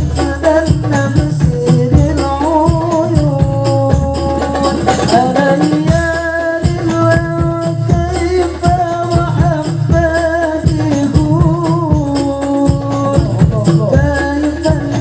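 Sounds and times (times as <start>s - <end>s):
frame drums beating: 0.0s - 15.0s
man singing into microphone: 0.0s - 15.0s.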